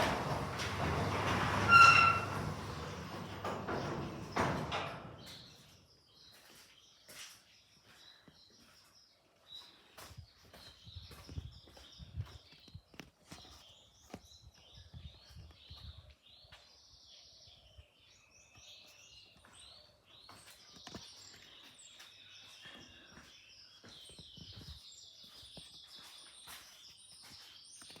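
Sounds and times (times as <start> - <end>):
birds chirping: 1.0 - 28.0.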